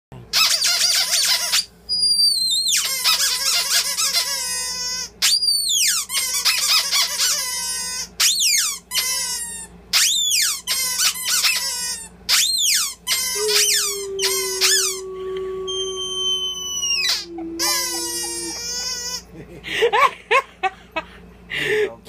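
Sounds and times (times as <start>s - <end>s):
squeaky toy squealing: 0.4s - 15.0s, 15.7s - 19.2s.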